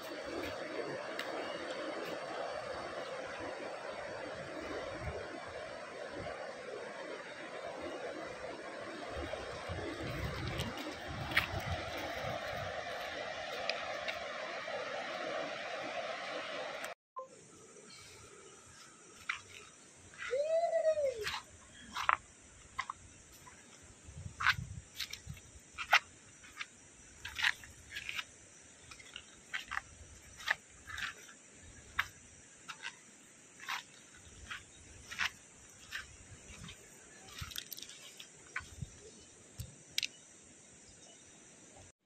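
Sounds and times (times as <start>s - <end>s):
insect drone: 0.0s - 42.0s.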